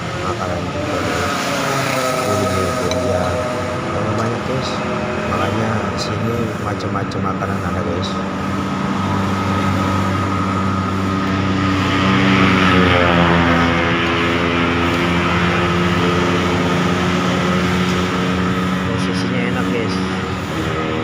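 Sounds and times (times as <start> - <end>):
vehicle engine passing by: 0.0 - 21.0.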